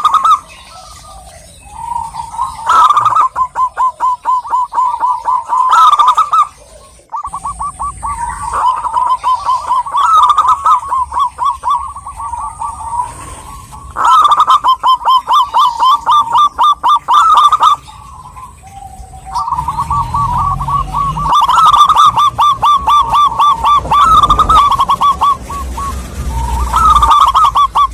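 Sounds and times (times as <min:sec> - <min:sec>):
doves cooing: 0:00.0 - 0:27.9.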